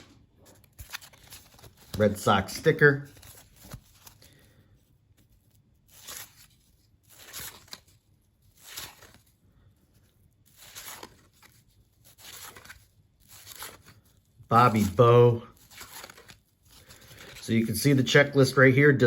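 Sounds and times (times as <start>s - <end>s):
cards sliding against each other: 0.0s - 9.3s, 10.0s - 17.4s.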